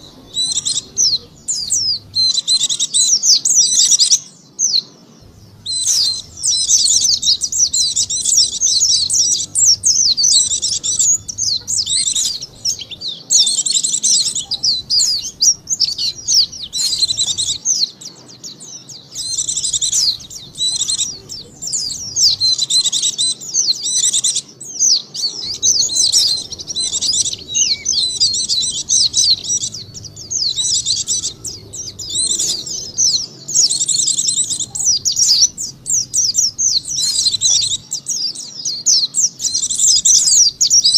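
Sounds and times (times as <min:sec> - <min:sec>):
bird high twittering song: 0:00.0 - 0:40.9.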